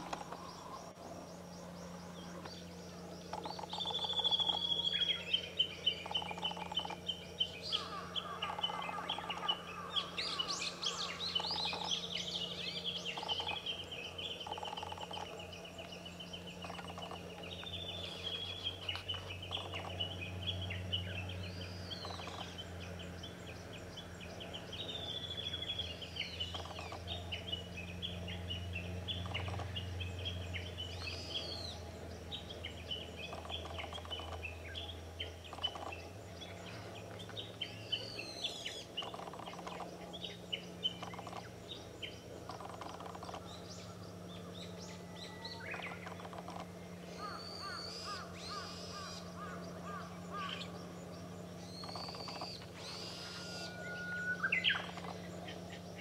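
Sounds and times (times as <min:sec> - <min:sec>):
birds chirping and whistling: 0:00.0 - 0:56.0
steady low hum: 0:00.0 - 0:56.0.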